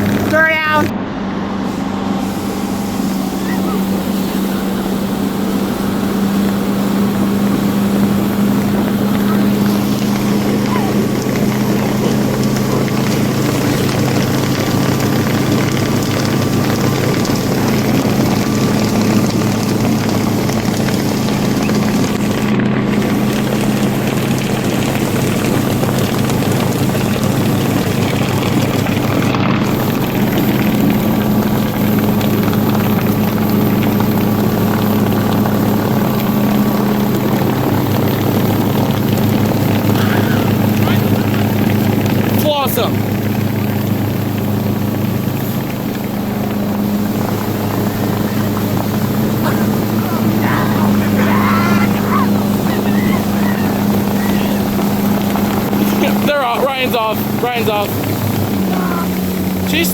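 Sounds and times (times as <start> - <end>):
motorboat engine drone: 0.0 - 59.9
water rushing: 0.0 - 59.9.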